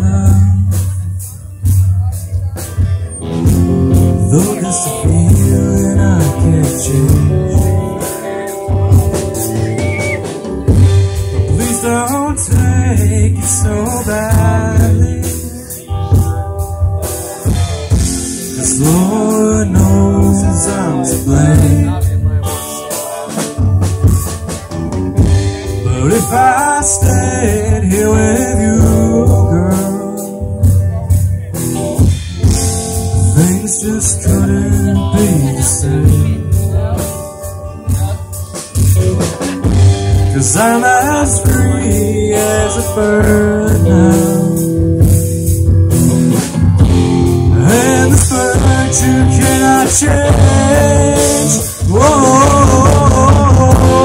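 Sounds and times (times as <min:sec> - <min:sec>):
live rock band playing: 0:00.0 - 0:54.0
sung vocals: 0:00.0 - 0:54.0.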